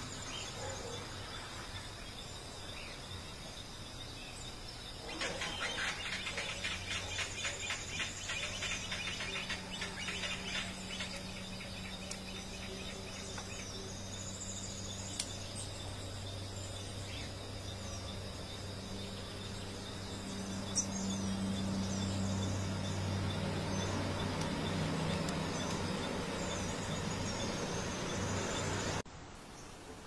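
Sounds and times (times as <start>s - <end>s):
steady low hum: 0.0s - 29.4s
birds chattering trill: 3.9s - 29.0s.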